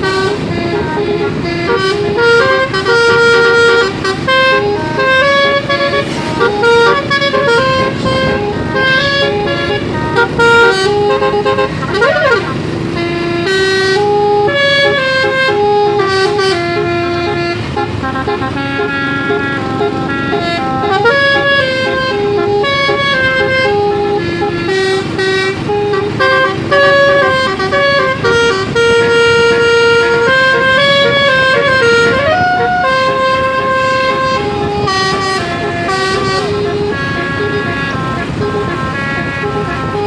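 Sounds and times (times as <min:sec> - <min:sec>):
multi-tone bus horn tune: 0:00.0 - 0:40.0.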